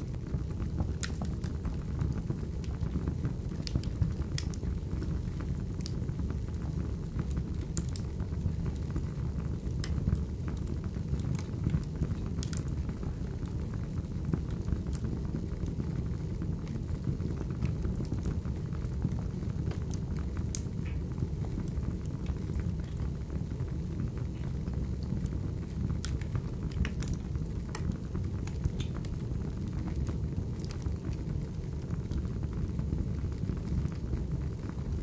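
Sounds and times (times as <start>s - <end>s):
fire flames rumbling: 0.0s - 35.0s
logs crackling and popping: 0.0s - 35.0s.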